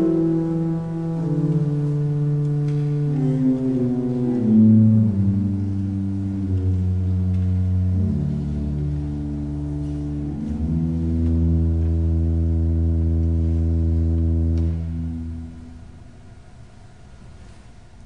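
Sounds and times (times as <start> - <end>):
sustained church music chords: 0.0 - 17.6.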